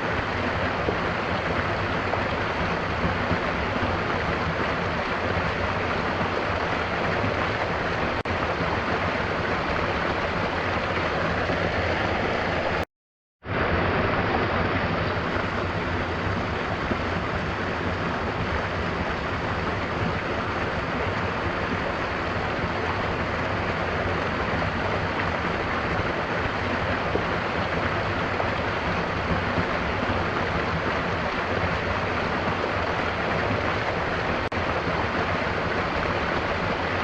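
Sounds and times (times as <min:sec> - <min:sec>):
gentle rain falling: 0:00.0 - 0:12.8, 0:13.4 - 0:37.0
waterfall rushing: 0:00.0 - 0:12.8, 0:13.5 - 0:37.0.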